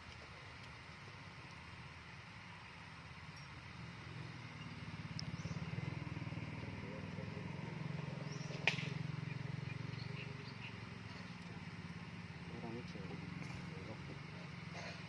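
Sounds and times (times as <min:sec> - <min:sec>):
small engine droning: 0:01.2 - 0:15.0.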